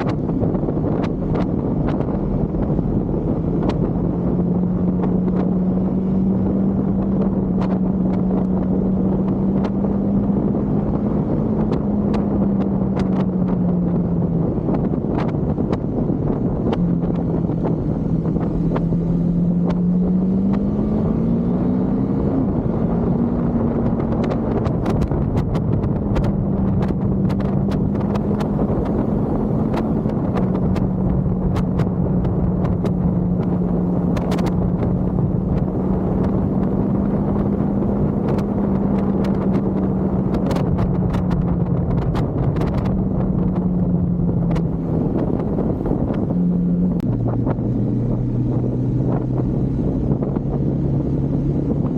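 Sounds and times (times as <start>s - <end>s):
motorcycle engine accelerating: 0.0s - 51.9s
wind buffeting microphone: 0.0s - 51.9s.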